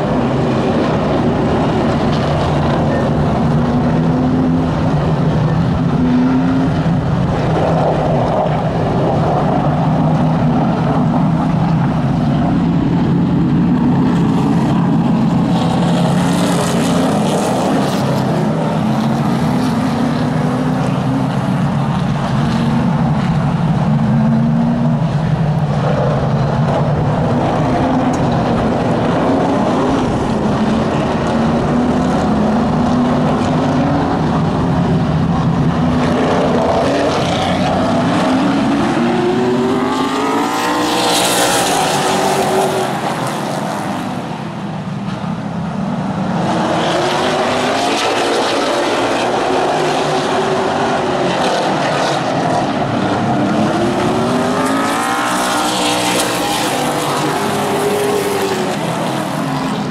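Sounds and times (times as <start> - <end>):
race car engines passing: 0.0 - 59.9.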